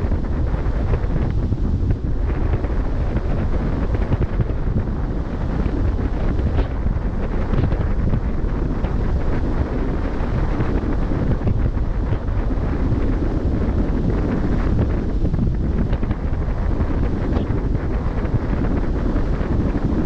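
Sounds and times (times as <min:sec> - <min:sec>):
sea washing against hull: 0:00.0 - 0:20.0
wind buffeting microphone: 0:00.0 - 0:20.0.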